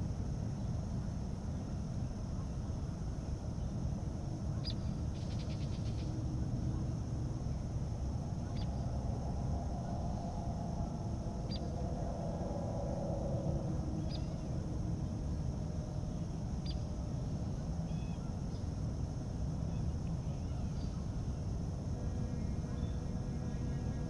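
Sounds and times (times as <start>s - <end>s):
steady low rumble: 0.0s - 23.8s
steady high hiss: 0.0s - 24.0s.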